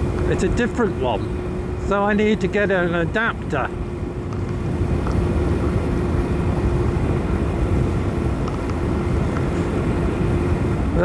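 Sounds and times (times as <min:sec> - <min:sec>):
motorcycle engine hum: 0:00.0 - 0:11.0
road and wind noise: 0:00.0 - 0:11.0.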